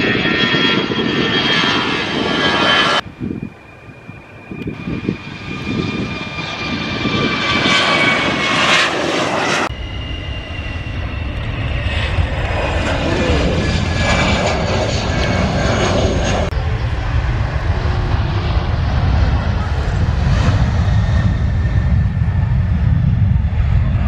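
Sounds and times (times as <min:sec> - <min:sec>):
jet airliner taking off: 0:00.0 - 0:24.0.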